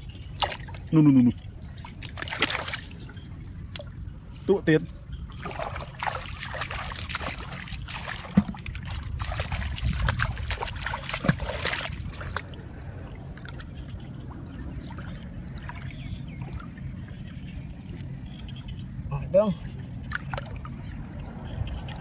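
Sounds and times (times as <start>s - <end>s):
steady low rumble: 0.0s - 22.0s
water splashing and trickling: 0.0s - 22.0s.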